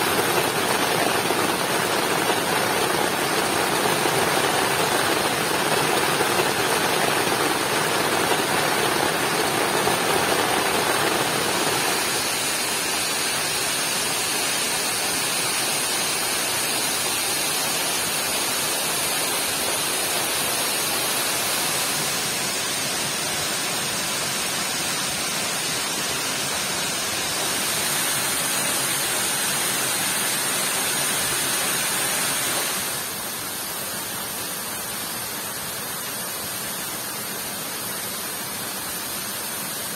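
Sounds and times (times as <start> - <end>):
heavy rain: 0.0 - 39.9
waterfall: 0.0 - 39.9.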